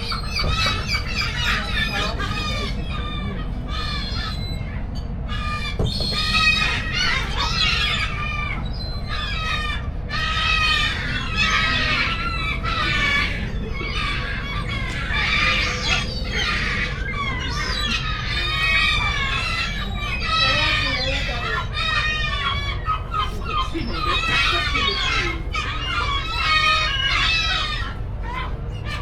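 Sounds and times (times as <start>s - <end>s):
birds squawking: 0.0s - 29.0s
steady low rumble: 0.0s - 29.0s.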